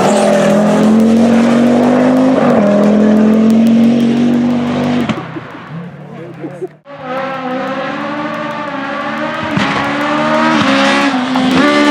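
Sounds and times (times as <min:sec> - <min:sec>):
rally car engine at full throttle: 0:00.0 - 0:11.9.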